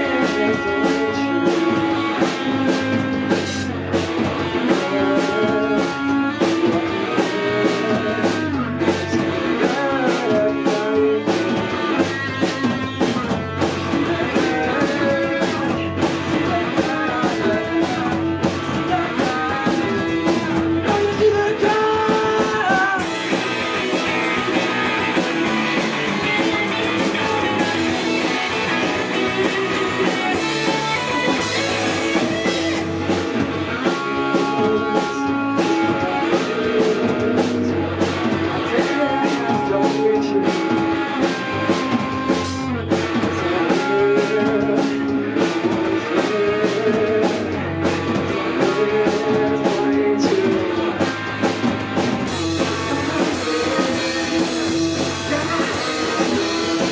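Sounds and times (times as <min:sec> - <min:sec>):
drum kit beat: 0:00.0 - 0:56.9
guitar: 0:00.0 - 0:56.9
live rock band playing: 0:00.0 - 0:56.9.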